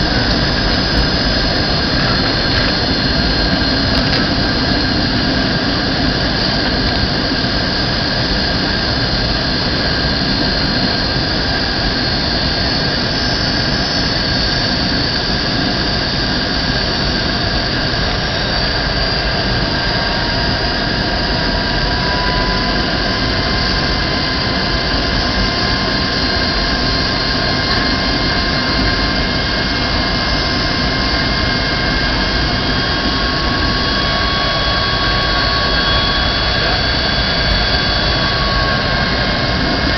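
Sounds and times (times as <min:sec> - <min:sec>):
jet engines and airflow roaring: 0:00.0 - 0:39.9
thin steady whines: 0:00.0 - 0:39.9
whine rising in pitch: 0:00.0 - 0:39.9.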